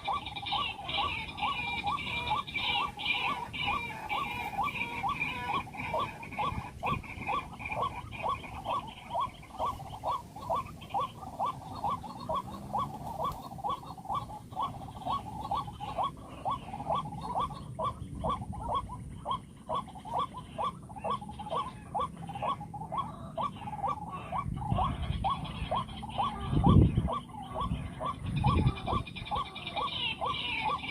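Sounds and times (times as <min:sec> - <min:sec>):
waterhen calling harsh notes: 0:00.0 - 0:30.9.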